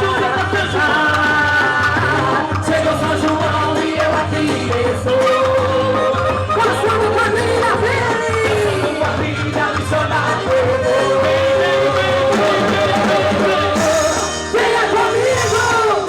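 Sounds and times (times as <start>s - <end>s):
folk dance music with singing: 0.0s - 16.0s.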